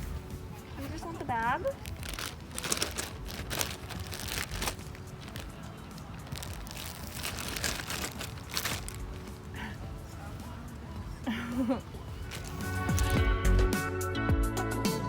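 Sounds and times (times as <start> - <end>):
rustling and crinkling: 0.0 - 13.6
faint music: 0.0 - 15.0.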